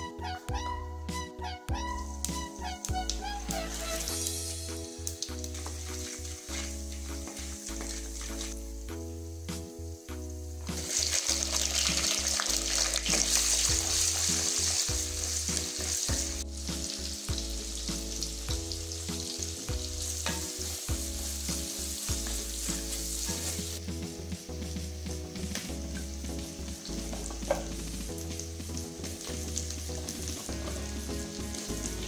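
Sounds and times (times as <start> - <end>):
shallots sizzling in hot oil: 1.8 - 32.0.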